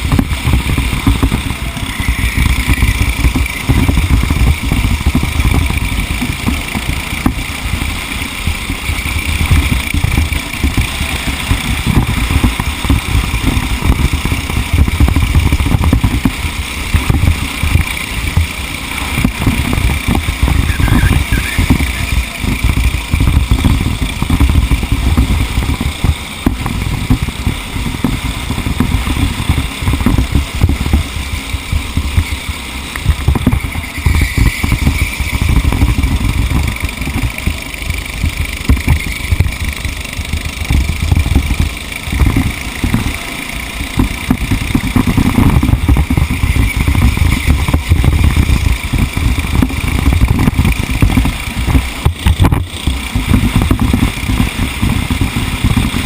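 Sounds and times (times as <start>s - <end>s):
racing vehicle engine revving: 0.0s - 56.0s.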